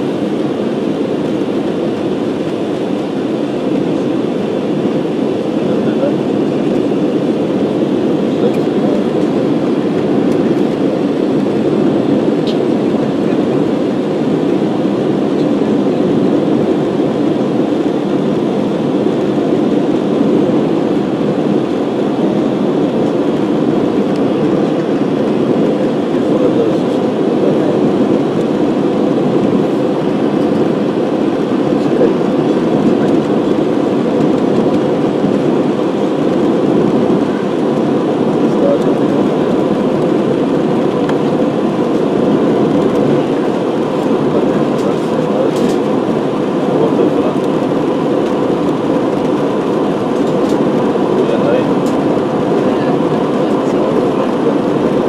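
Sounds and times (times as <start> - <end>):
jet engine cabin rumble: 0.0 - 55.0.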